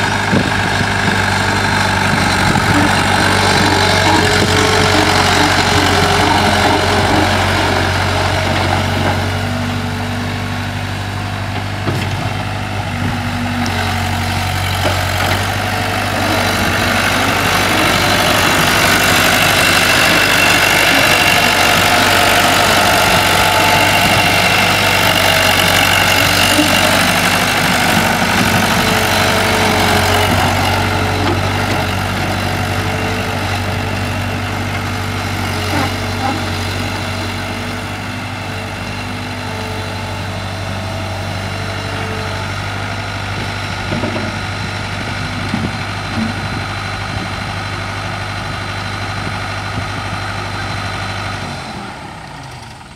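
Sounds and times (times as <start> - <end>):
loader engine running: 0.0 - 52.9.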